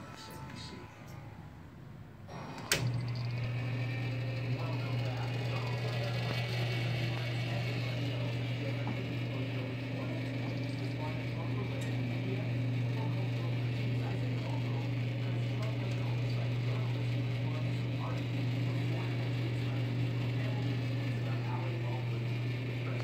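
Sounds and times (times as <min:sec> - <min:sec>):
rotisserie oven humming: 0:00.0 - 0:23.0.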